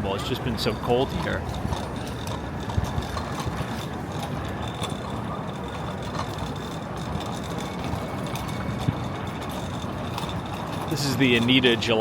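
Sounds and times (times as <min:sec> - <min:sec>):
city street noise: 0:00.0 - 0:12.0.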